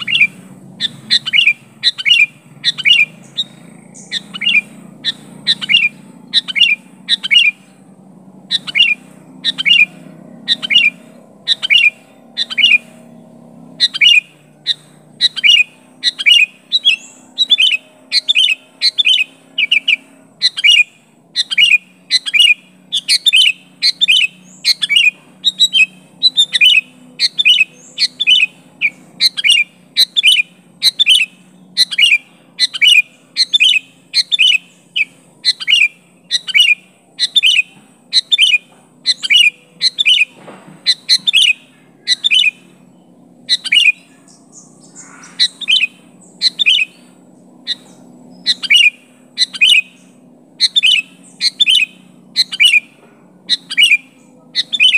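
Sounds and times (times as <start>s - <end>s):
bird giving sharp calls: 0.0s - 54.9s.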